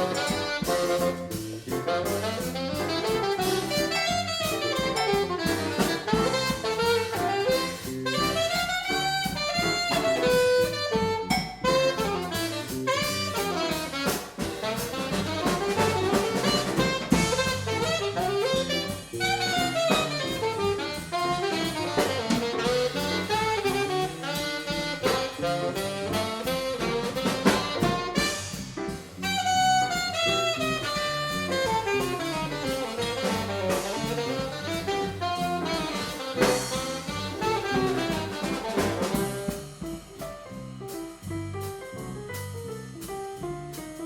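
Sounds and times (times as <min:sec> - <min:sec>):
saxophone playing: 0:00.0 - 0:42.0
bass line: 0:00.0 - 0:44.0
drum kit: 0:00.0 - 0:44.0.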